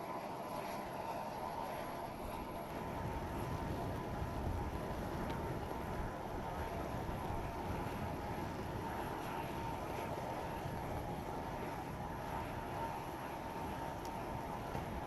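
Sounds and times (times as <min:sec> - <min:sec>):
jet turbines whining: 0:00.0 - 0:15.0
wind on microphone: 0:01.7 - 0:15.0.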